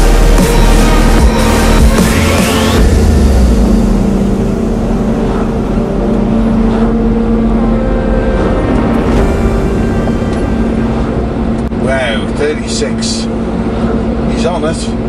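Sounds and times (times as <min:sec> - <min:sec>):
lorry diesel engine running: 0:00.0 - 0:15.0
road and tyre noise: 0:00.0 - 0:15.0.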